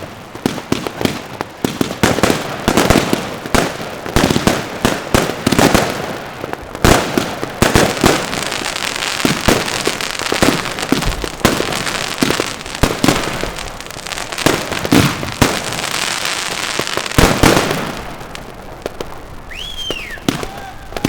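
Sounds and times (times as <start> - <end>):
firework bangs: 0.0 - 21.0
firework hissing crackle: 0.0 - 21.0.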